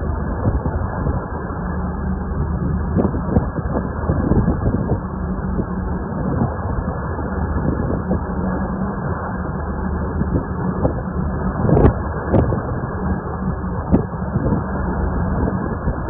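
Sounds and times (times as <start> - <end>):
low engine drone: 0.0 - 16.0
rushing wind: 0.0 - 16.0.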